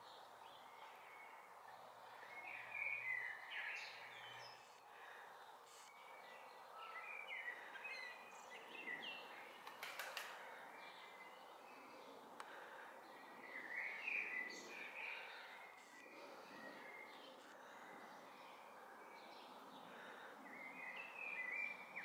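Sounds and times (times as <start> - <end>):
faint outdoor background noise: 0.0 - 22.0
songbirds chirping and singing: 0.0 - 22.0.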